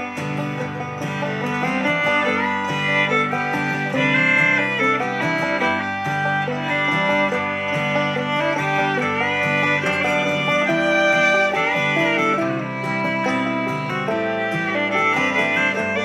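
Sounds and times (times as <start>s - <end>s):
country music with fiddle and guitar: 0.0s - 16.0s.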